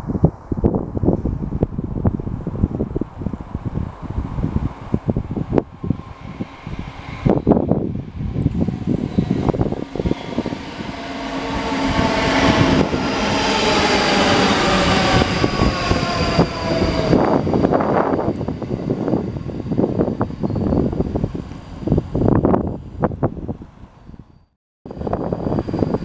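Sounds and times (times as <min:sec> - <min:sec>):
wind buffeting microphone: 0:00.0 - 0:26.0
train whine: 0:00.6 - 0:26.0
train passing: 0:01.0 - 0:26.0.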